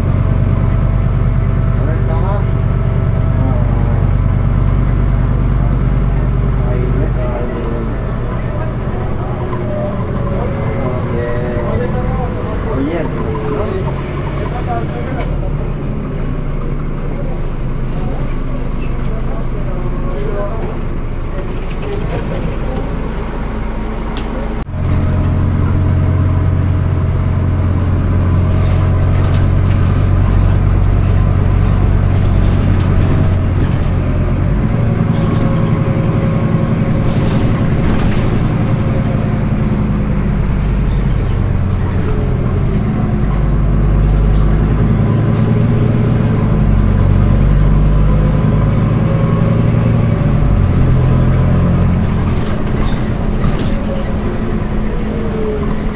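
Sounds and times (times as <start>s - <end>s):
bus diesel engine pulling: 0.0s - 55.9s.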